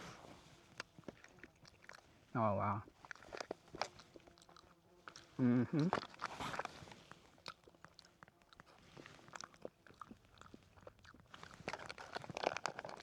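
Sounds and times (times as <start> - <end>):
person chewing food: 0.7 - 2.2, 2.9 - 13.0.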